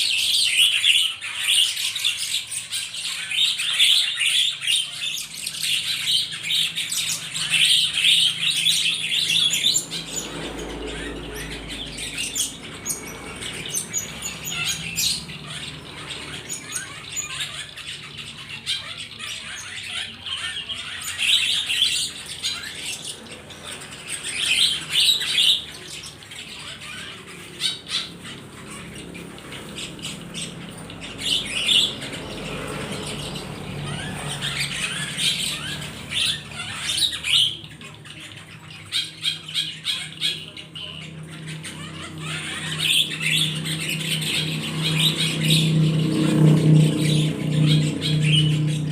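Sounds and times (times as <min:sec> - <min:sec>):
birds chirping and squawking: 0:00.0 - 0:48.9.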